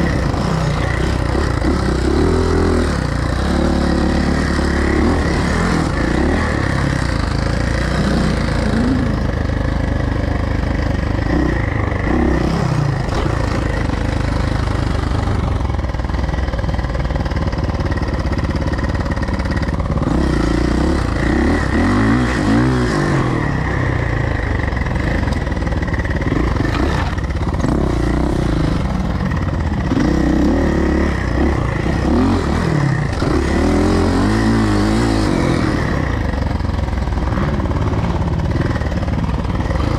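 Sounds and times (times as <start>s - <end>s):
motocross bike engine revving: 0.0s - 16.4s, 17.1s - 39.9s.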